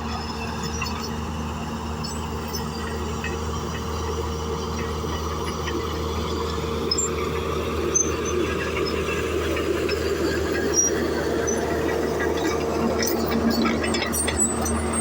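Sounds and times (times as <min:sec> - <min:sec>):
high-pitched machine squeaks: 0:00.0 - 0:04.1, 0:06.8 - 0:15.0
bulldozer diesel engine running: 0:00.0 - 0:15.0.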